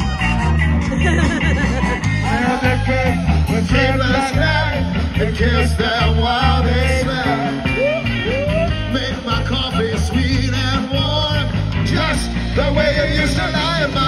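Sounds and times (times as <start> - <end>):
live ska band playing: 0.0 - 14.0
person singing: 0.0 - 14.0.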